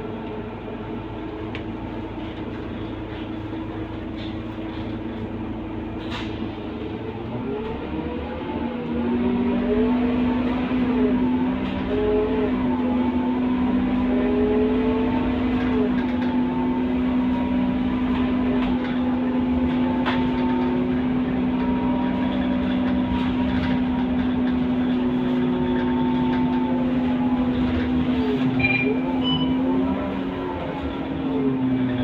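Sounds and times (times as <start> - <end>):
bus engine hum: 0.0 - 32.0.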